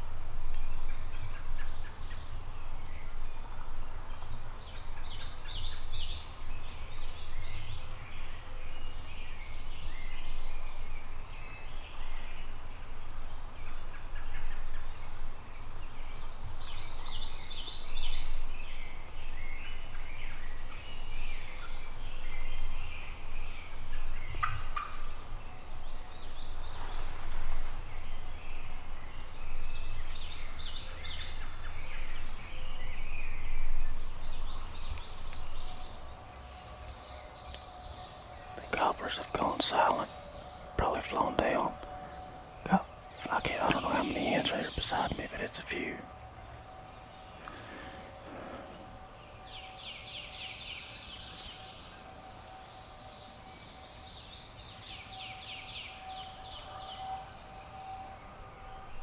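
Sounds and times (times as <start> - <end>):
birds calling: 0.0 - 51.6.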